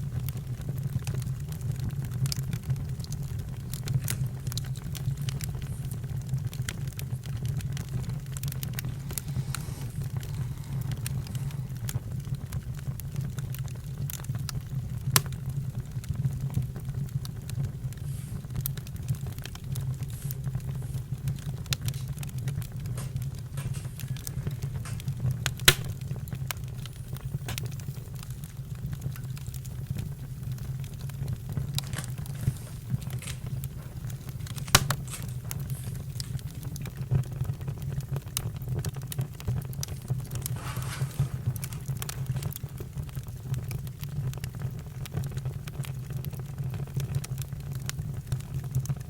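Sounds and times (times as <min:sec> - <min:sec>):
campfire crackling: 0:00.0 - 0:49.0
low steady fire rumble: 0:00.0 - 0:49.0.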